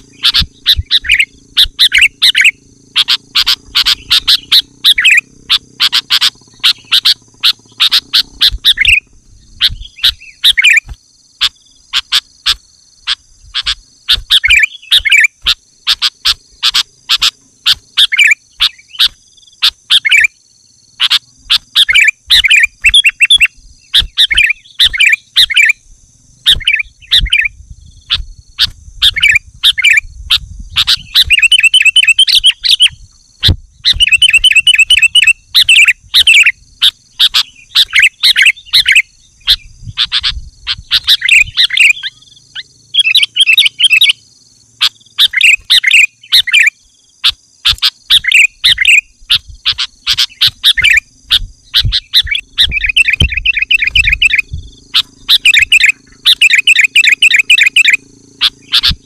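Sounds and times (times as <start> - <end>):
bulbul singing whistled notes: 0.0 - 59.0.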